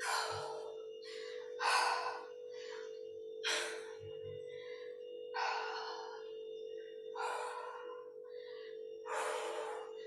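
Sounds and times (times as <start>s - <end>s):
woman breathing hard: 0.0s - 6.4s, 7.1s - 10.0s
steady low hum: 0.0s - 10.0s.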